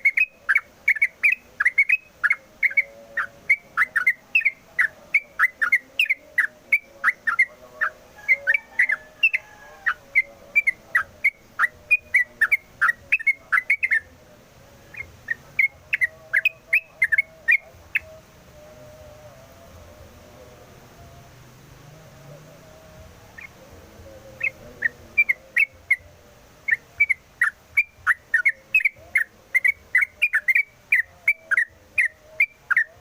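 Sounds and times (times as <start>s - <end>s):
bird singing whistled notes: 0.0s - 14.1s, 14.9s - 18.8s, 24.2s - 33.0s.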